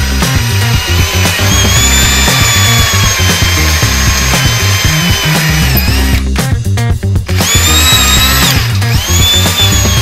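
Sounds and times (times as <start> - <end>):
cordless drill whining: 0.0 - 6.3, 7.3 - 10.0.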